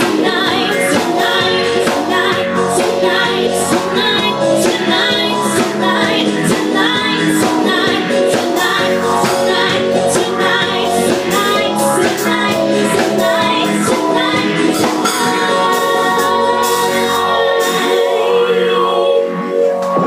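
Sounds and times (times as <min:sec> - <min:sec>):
steady drum beat: 0:00.0 - 0:18.1
women singing into microphones: 0:00.0 - 0:19.4
live band playing: 0:00.0 - 0:20.0.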